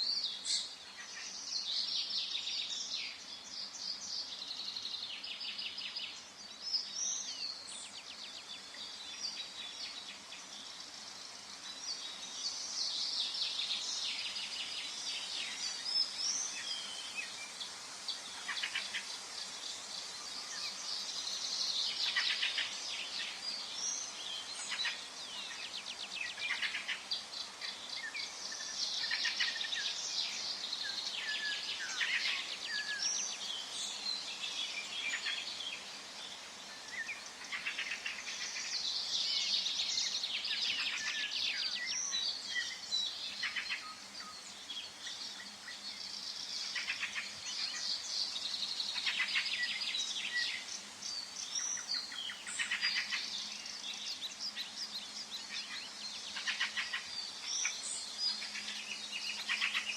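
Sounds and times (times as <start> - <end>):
faint steady hiss: 0.0 - 59.9
songbirds singing and chirping: 0.0 - 59.9.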